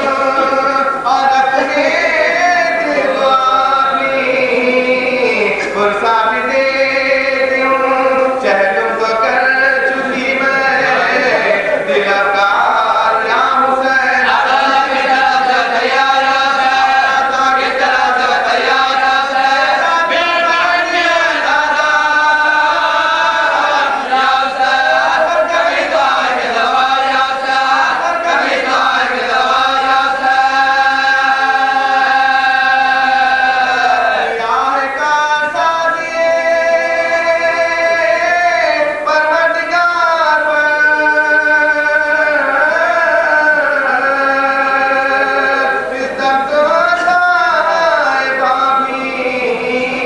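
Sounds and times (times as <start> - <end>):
men chanting in unison: 0.0 - 50.0.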